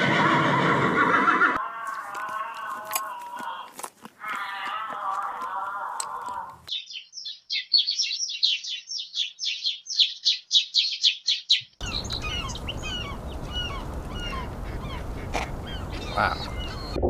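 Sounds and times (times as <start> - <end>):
birds chirping: 3.2 - 17.0.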